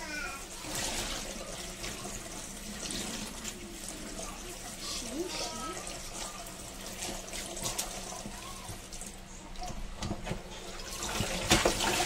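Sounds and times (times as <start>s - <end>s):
pea pods rinsed in colander: 0.0s - 9.7s, 10.6s - 12.0s
colander clattering splashes: 0.5s - 9.2s, 10.0s - 12.0s.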